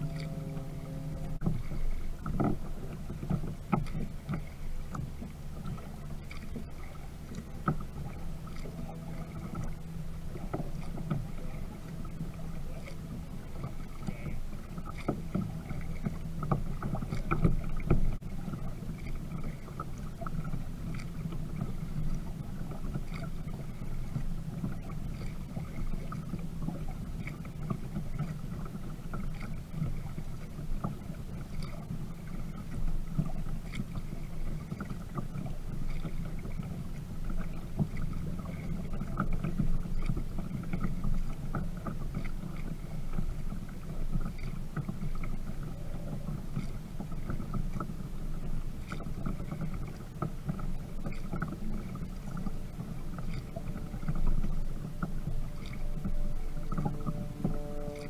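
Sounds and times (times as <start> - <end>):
steady low rumble: 0.0 - 58.0
water lapping against plastic hull: 0.0 - 58.0.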